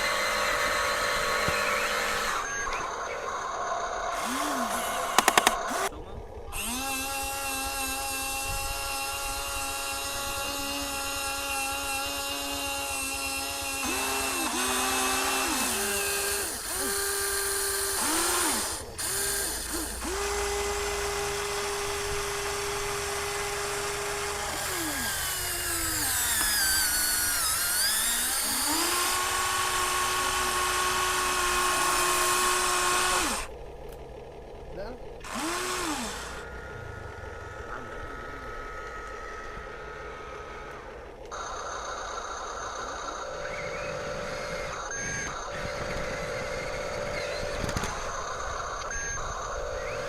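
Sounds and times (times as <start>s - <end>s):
electric motors and gearboxes whining: 0.0s - 50.0s.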